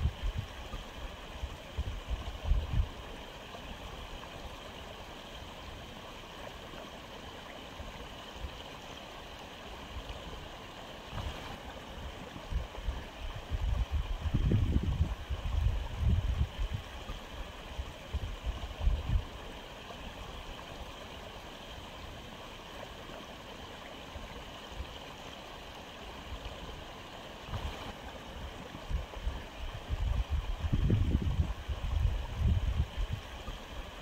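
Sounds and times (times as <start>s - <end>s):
aquarium filter water gurgling: 0.0s - 34.0s.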